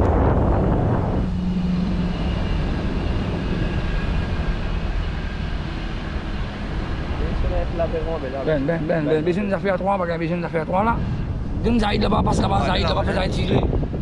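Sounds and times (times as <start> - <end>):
faint drone: 0.0 - 14.0
wind rushing over microphone: 0.0 - 14.0.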